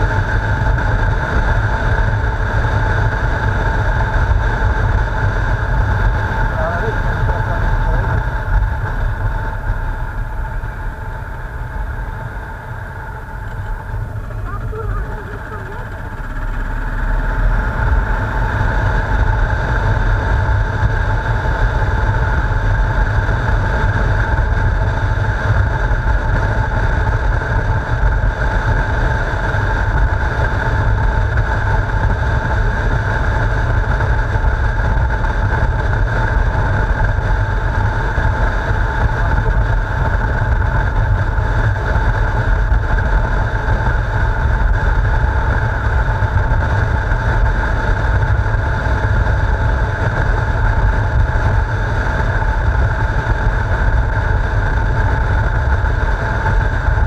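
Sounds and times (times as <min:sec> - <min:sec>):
motorcycle engine drone: 0:00.0 - 0:57.0
wind buffeting microphone: 0:00.0 - 0:57.0.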